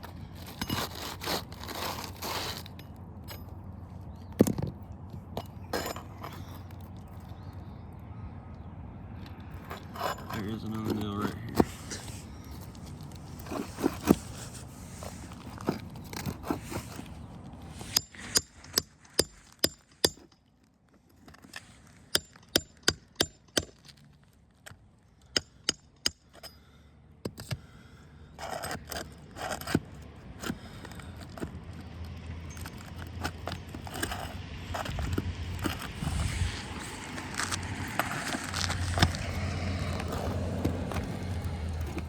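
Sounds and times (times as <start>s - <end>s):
tool scraping over shingle: 0.0s - 7.6s, 9.2s - 42.0s.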